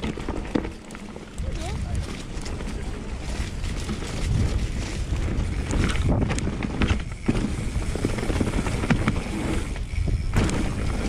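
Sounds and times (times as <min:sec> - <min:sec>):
bike clicks and rattles: 0:00.0 - 0:11.0
tyres on dirt and leaves: 0:00.0 - 0:11.0
wind rushing over microphone: 0:01.4 - 0:11.0.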